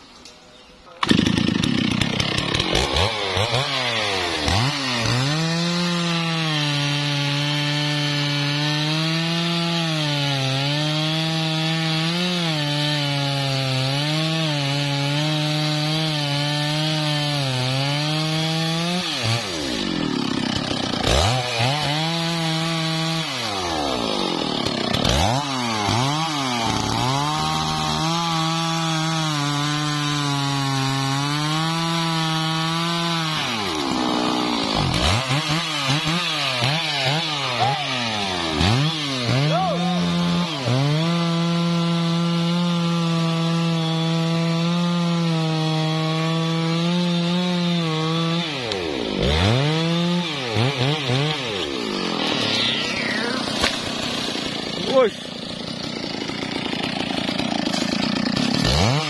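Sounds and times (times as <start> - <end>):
chainsaw cutting wood: 1.0 - 59.0.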